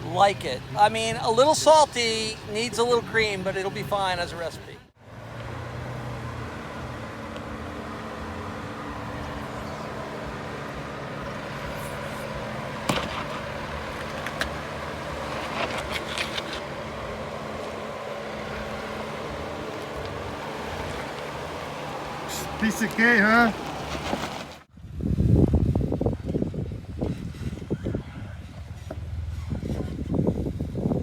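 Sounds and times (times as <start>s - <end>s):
engine running at low speed: 2.2s - 31.0s.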